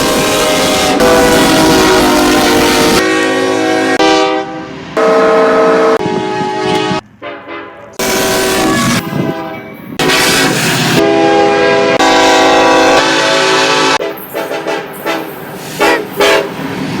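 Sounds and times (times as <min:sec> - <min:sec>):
locomotive air horn blasts: 0:00.0 - 0:16.6
train running: 0:00.0 - 0:17.0.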